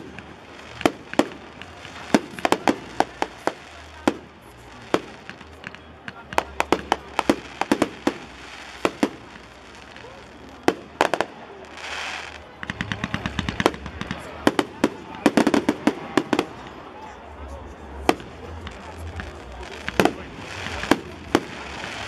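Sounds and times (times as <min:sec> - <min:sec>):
fireworks bangs: 0:00.0 - 0:17.2, 0:18.0 - 0:22.0.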